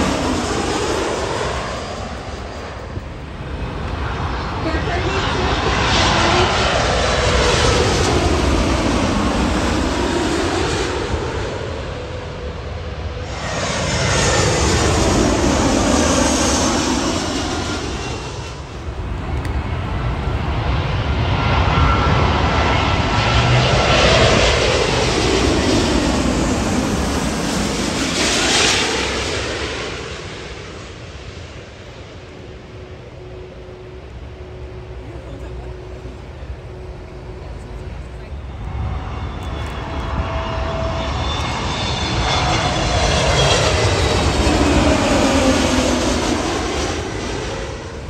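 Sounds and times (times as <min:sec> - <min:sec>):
jet airliners passing overhead: 0:00.0 - 0:48.0.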